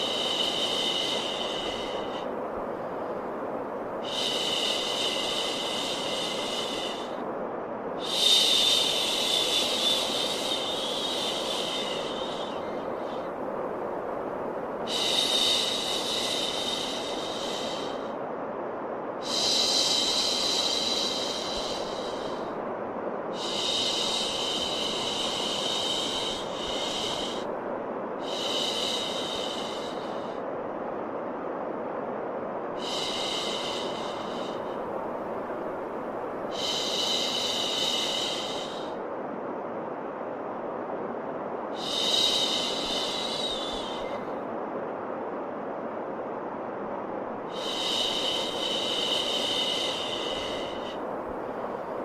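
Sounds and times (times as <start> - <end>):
steady white noise: 0.0 - 52.0.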